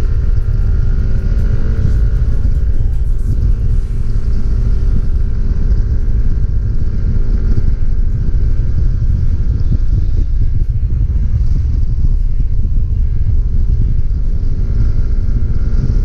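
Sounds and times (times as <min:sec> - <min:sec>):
scooter engine running: 0:00.0 - 0:16.0
wind rumble: 0:00.0 - 0:16.0.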